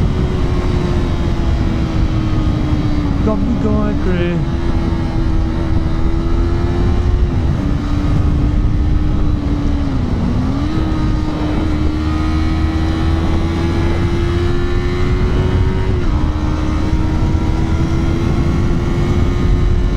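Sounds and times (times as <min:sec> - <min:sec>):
low wind rumble: 0:00.0 - 0:19.9
motorcycle engine running hard: 0:00.0 - 0:19.9.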